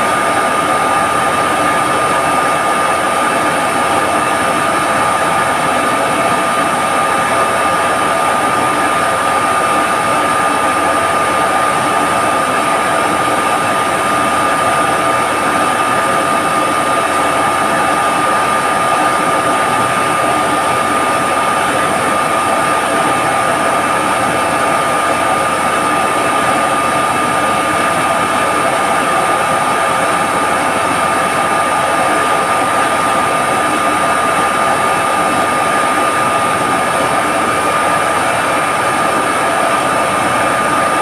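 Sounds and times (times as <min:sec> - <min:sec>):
machinery drone: 0:00.0 - 0:41.0.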